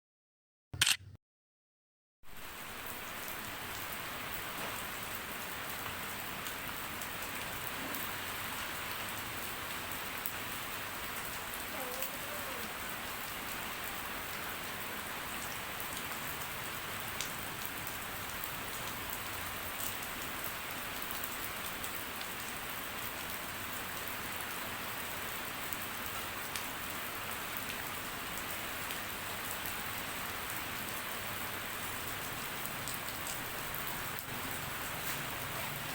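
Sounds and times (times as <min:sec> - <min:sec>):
raindrops pattering on surfaces: 0:02.3 - 0:35.9
steady rain falling: 0:02.3 - 0:35.9.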